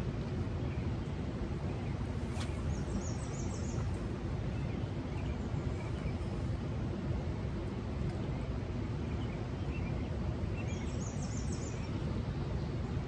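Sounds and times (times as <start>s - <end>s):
small birds chirping: 0.4s - 6.6s, 8.1s - 13.0s.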